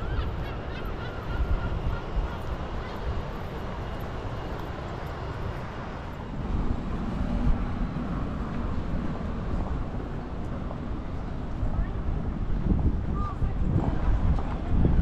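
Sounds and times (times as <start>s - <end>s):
city low rumble: 0.0s - 15.0s.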